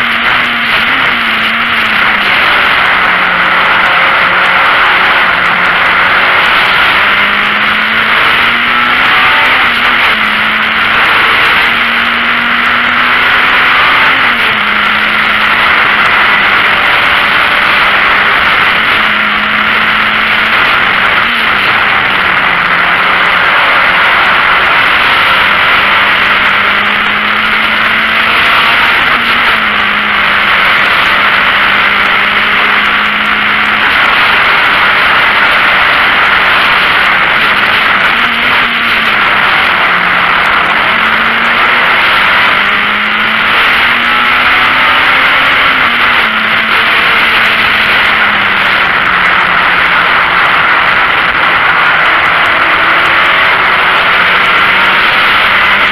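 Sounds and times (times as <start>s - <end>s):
race car engine drone: 0.0s - 55.9s.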